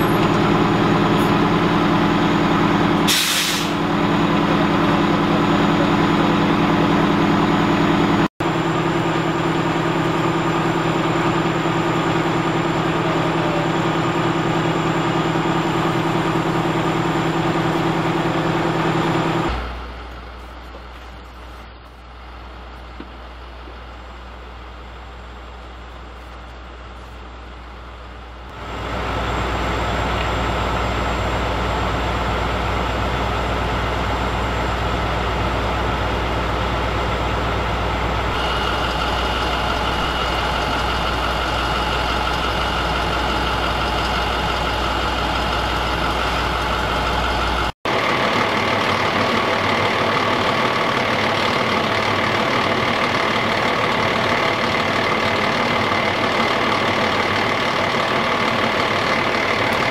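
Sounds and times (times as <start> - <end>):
diesel engines idling: 0.0 - 59.9.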